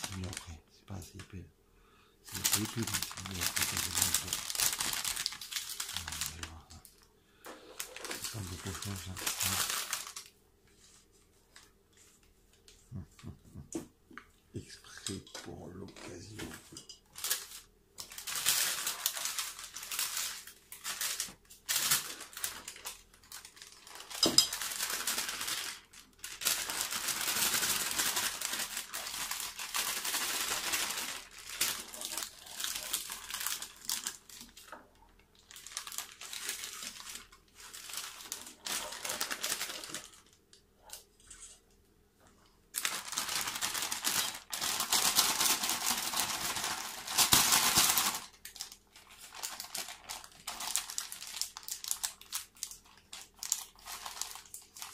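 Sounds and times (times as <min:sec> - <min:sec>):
plastic piping bag crinkling: 0:00.0 - 0:01.1, 0:02.3 - 0:10.4, 0:15.0 - 0:41.6, 0:42.7 - 0:54.9.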